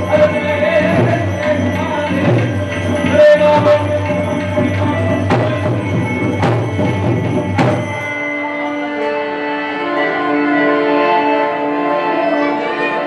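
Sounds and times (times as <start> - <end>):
sharp percussion strikes: 0.0 - 10.5
instrumental backing: 0.0 - 13.0.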